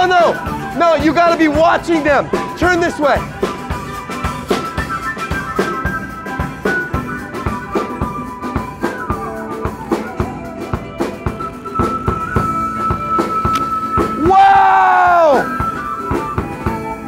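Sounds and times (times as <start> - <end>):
drum kit beat: 0.0 - 17.0
wind instrument melody: 0.0 - 17.0.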